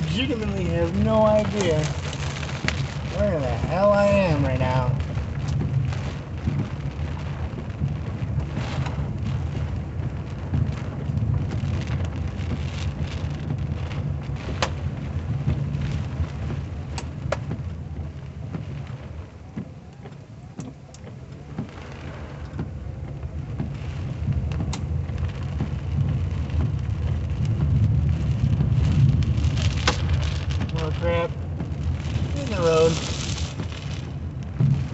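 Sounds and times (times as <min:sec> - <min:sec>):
heavy rain on a car roof: 0:00.0 - 0:34.9
raindrops ticking on glass: 0:00.0 - 0:34.9
wind buffeting a car: 0:00.0 - 0:34.9.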